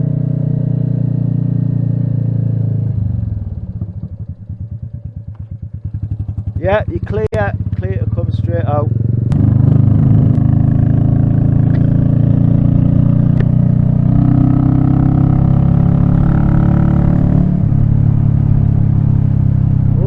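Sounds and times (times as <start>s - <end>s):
motorcycle engine pulling away: 0.0s - 20.0s.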